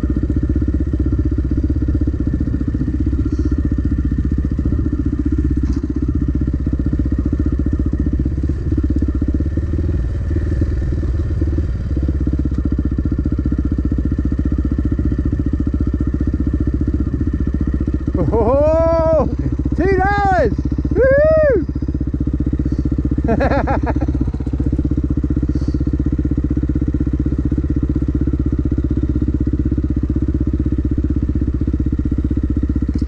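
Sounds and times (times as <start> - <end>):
dirt bike engine idling: 0.0 - 33.0.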